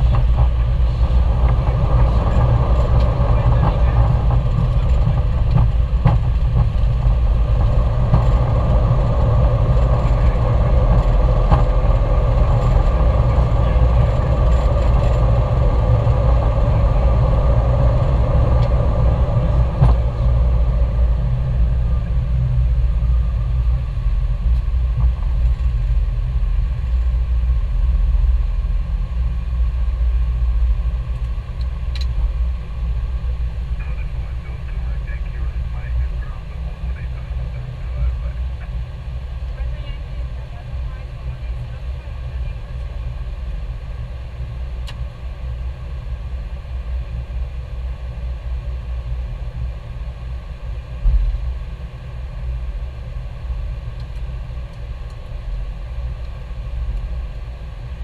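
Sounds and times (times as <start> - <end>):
airplane engine rumble in cockpit: 0.0 - 58.0.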